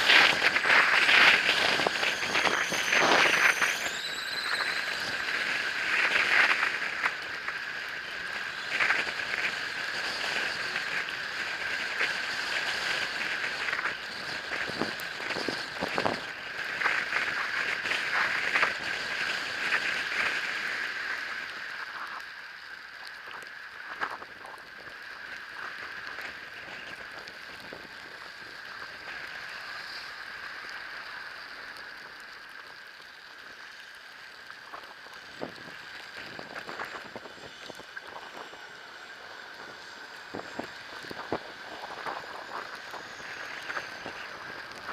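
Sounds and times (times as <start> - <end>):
constant hiss: 0.0 - 44.9.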